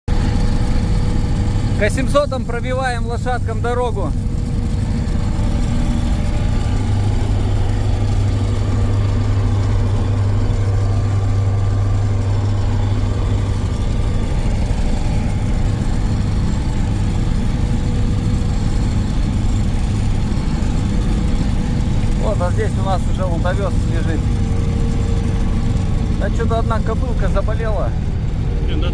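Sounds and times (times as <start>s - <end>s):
tractor diesel engine drone: 0.1s - 28.9s.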